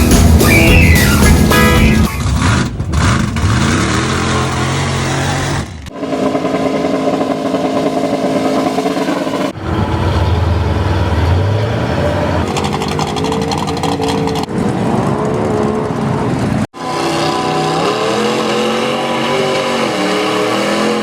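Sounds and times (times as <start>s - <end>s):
off-road engines revving: 0.0s - 21.0s.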